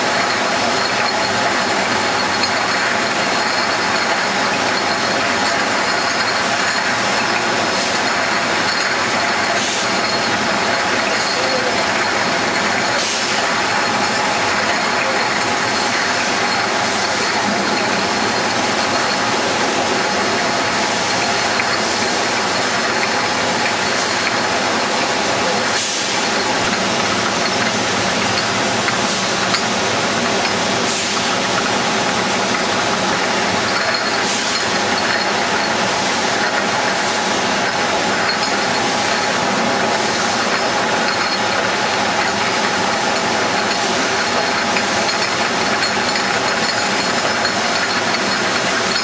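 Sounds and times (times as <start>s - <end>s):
glass bottles clinking on conveyor: 0.0s - 49.0s.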